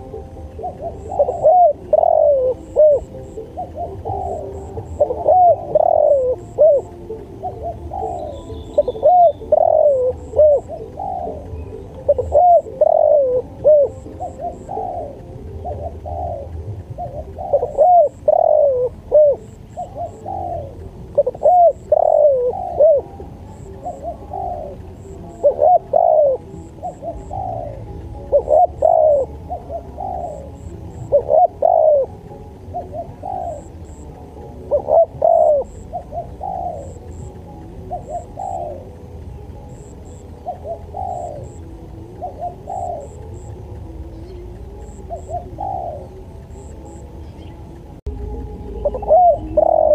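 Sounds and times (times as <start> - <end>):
dove cooing: 0.0 - 49.9.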